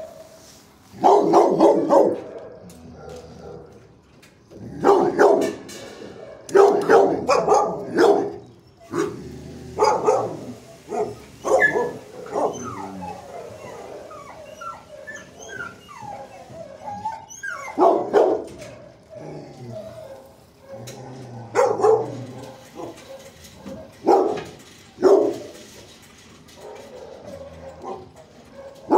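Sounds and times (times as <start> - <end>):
dogs barking: 0.0 - 4.0, 4.6 - 25.8, 26.5 - 28.9
dogs yipping and whining: 1.0 - 28.9.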